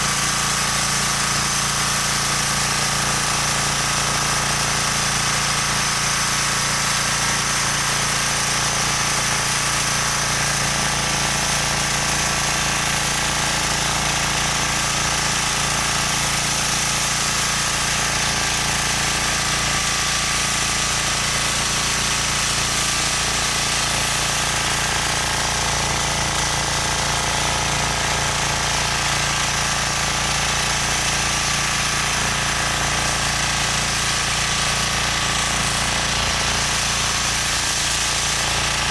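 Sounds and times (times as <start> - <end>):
tiller engine running under load: 0.0 - 38.9.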